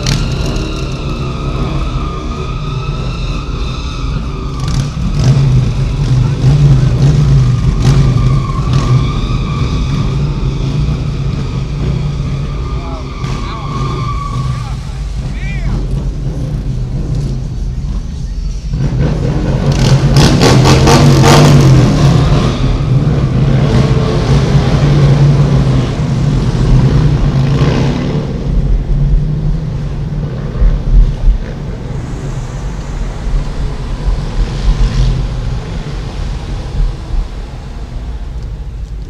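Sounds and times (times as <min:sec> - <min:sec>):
car engine and road noise: 0:00.0 - 0:39.0
motorcycle engines revving: 0:00.0 - 0:39.0.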